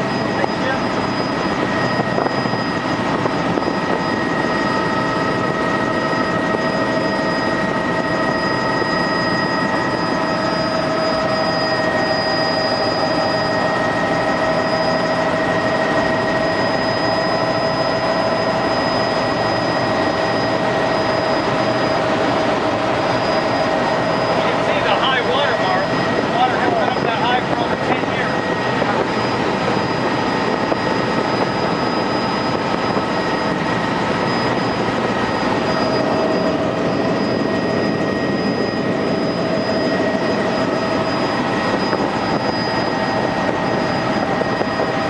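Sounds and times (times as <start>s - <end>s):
helicopter rotor and engine: 0.0s - 45.0s
high even whine: 0.0s - 45.0s.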